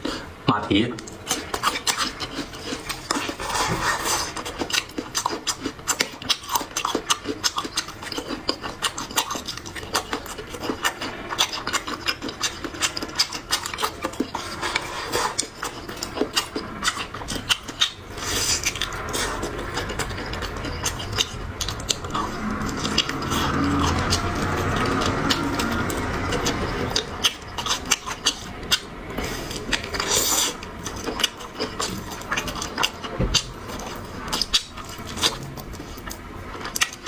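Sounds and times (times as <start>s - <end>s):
food crunched and chewed: 1.0s - 37.0s.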